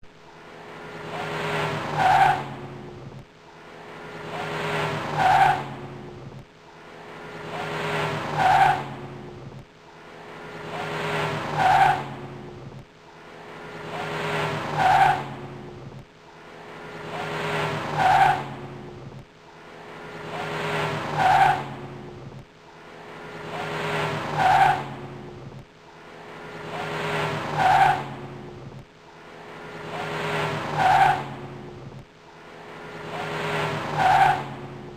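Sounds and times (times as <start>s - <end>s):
car tire squeal: 0.4s - 34.9s.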